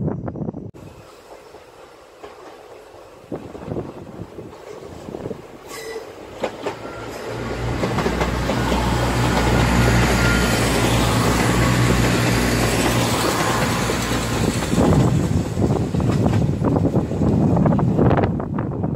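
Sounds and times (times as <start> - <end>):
diesel train engines humming: 0.4 - 18.9
train wheels clicking over rail joints: 1.2 - 17.6.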